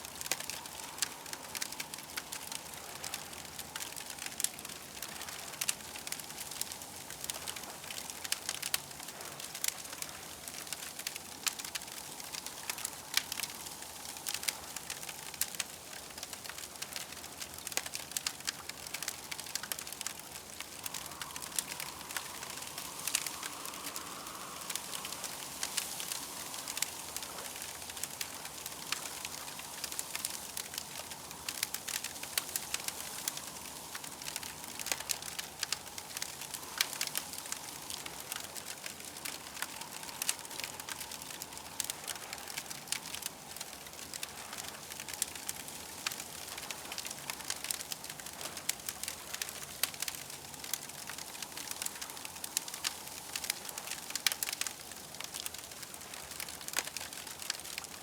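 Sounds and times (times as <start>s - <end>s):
campfire crackling: 0.0s - 58.0s
soft hiss: 0.0s - 58.0s.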